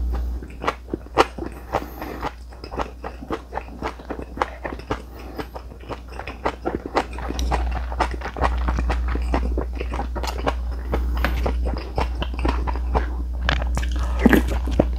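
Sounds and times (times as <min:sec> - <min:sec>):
chewing crisp vegetables: 0:00.0 - 0:14.9.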